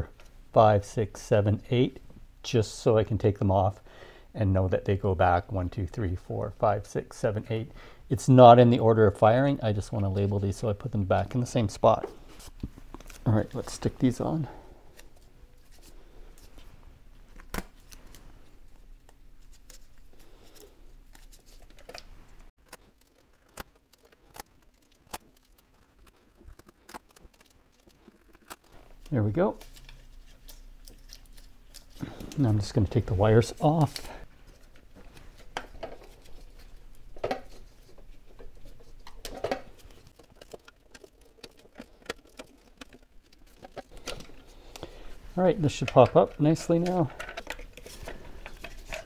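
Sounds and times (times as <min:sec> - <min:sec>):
soft rustling of labels: 0:05.0 - 0:49.0.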